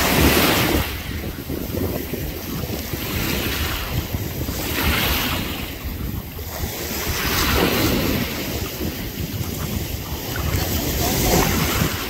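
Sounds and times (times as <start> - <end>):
small sea waves splashing: 0.0 - 12.0
wind rumbling on microphone: 0.0 - 12.0.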